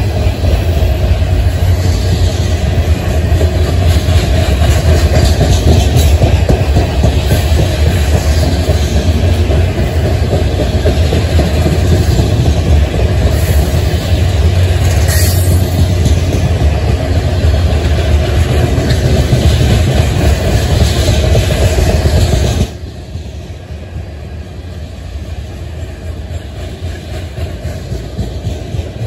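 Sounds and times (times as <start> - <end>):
freight train wheels rumbling on rail: 0.0 - 29.0.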